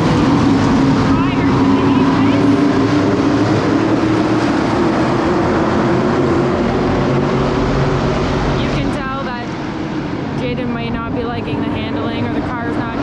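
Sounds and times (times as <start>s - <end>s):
racing car engines at speed: 0.0s - 13.0s.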